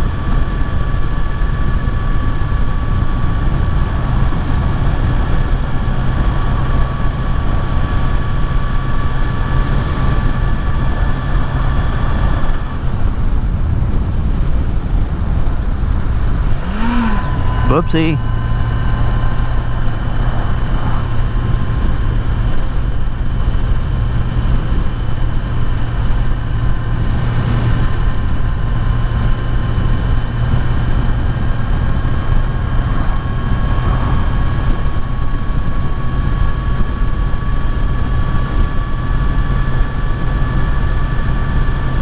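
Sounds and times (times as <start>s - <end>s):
motorcycle engine cruising: 0.0s - 42.0s
wind noise on microphone: 0.0s - 42.0s.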